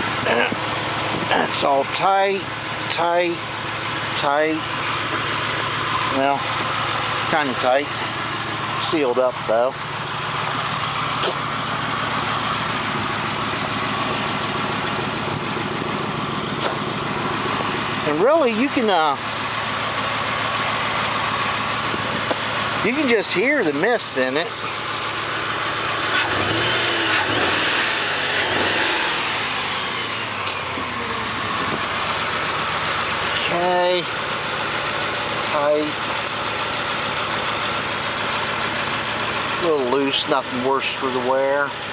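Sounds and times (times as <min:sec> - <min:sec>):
car engine idling unevenly: 0:00.0 - 0:41.9.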